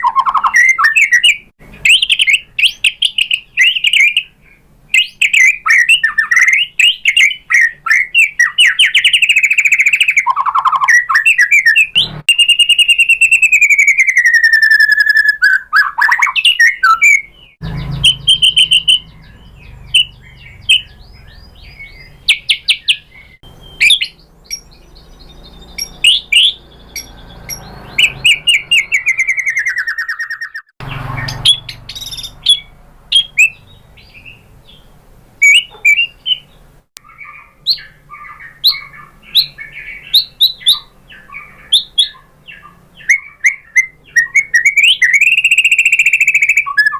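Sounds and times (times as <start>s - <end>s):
songbird singing whistles and trills: 0.0s - 46.9s.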